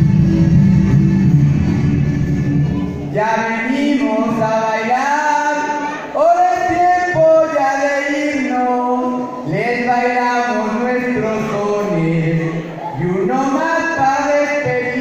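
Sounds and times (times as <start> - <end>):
man chanting over loudspeakers: 2.7 - 15.0.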